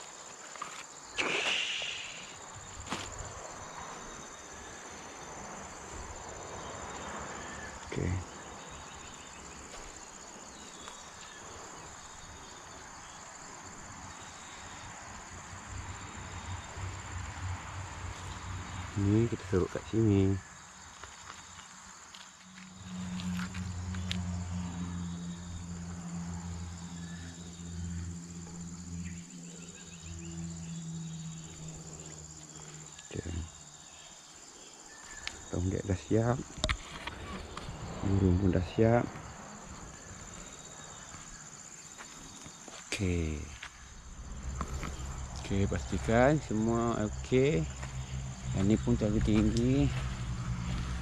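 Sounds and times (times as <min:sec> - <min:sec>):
high-pitched insect chorus: 0:00.0 - 0:51.0.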